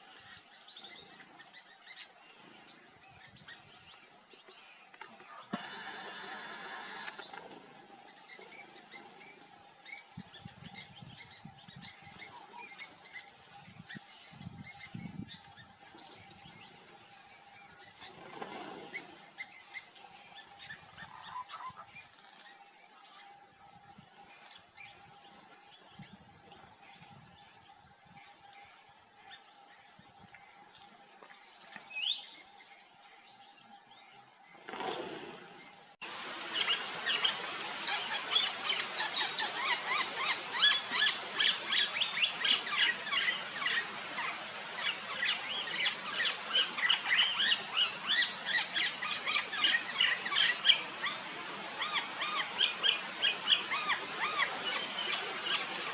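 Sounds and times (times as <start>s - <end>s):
wild birds chirping: 0.0s - 55.9s.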